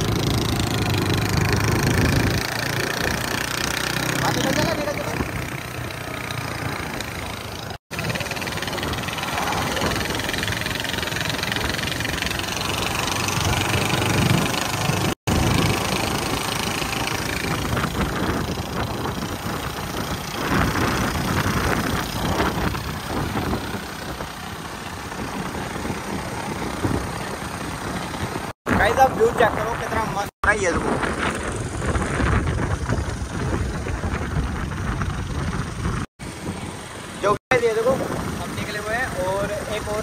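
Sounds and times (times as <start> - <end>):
motorcycle engine with muffled exhaust: 0.0 - 30.1, 30.7 - 40.0
wind and road noise: 0.0 - 40.0.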